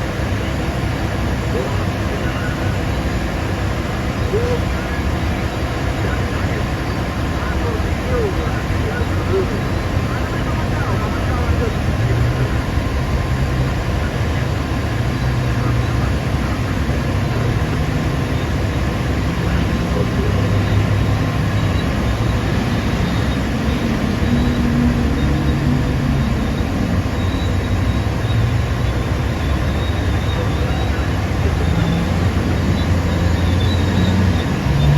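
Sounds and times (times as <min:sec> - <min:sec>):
excavator diesel engine rumbling: 0:00.0 - 0:34.9.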